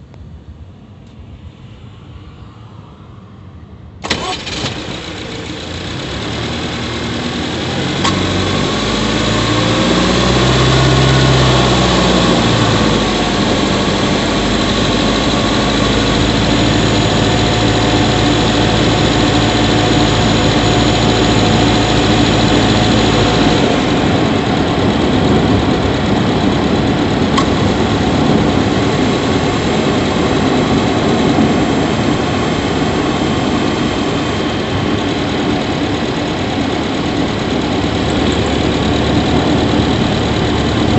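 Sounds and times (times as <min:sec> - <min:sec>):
car engine running: 0:04.0 - 0:40.9.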